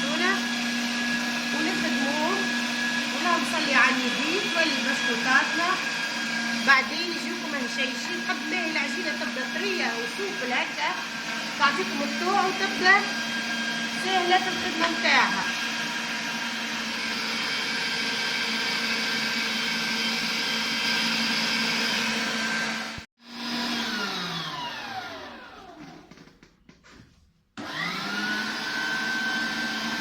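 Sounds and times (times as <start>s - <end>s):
kitchen appliance motor humming: 0.0s - 26.5s, 27.6s - 30.0s.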